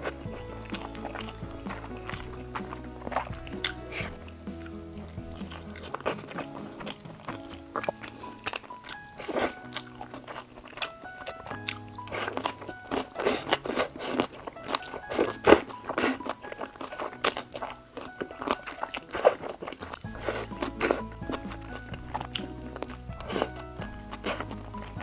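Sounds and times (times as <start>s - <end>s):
crunching and chewing food: 0.0s - 25.0s
soft background music: 0.0s - 25.0s.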